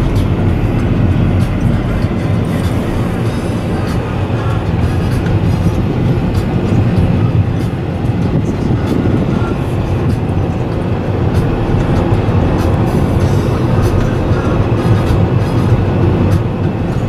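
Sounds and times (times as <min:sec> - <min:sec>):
car driving on paved road: 0:00.0 - 0:17.0.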